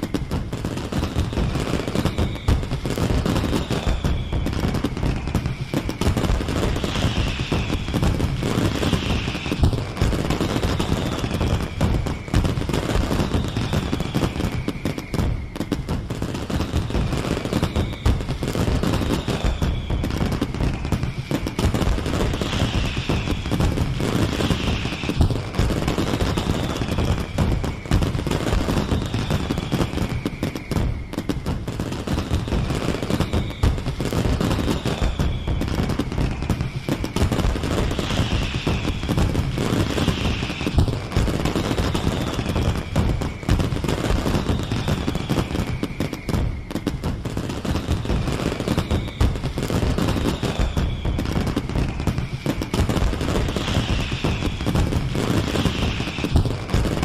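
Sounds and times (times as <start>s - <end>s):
falling firework whistle: 0.0s - 57.0s
fireworks crackling and banging: 0.0s - 57.0s.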